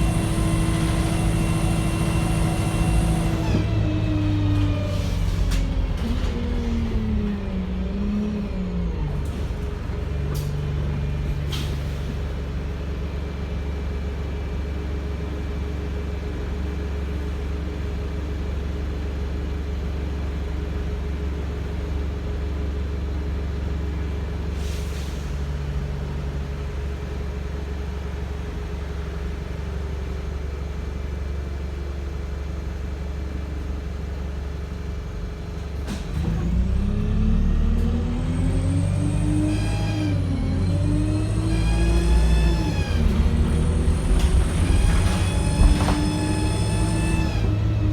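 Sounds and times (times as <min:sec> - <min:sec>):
bus engine idling and revving: 0:00.0 - 0:47.9.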